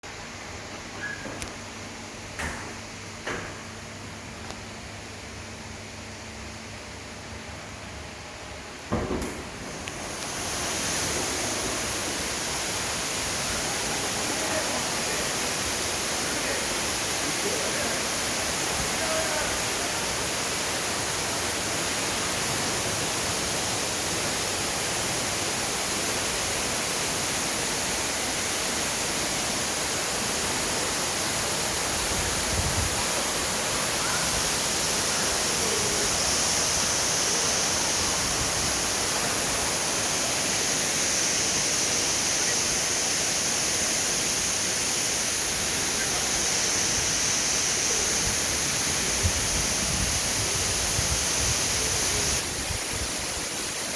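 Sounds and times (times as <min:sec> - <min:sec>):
high hiss: 0:00.0 - 0:53.9.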